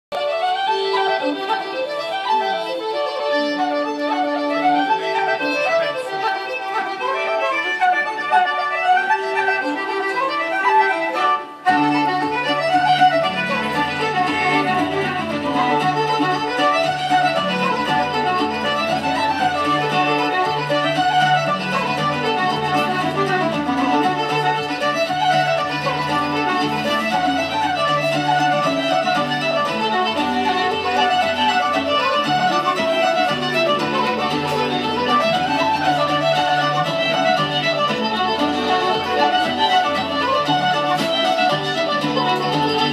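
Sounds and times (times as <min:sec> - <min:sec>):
fiddle dance music: 0:00.1 - 0:42.9.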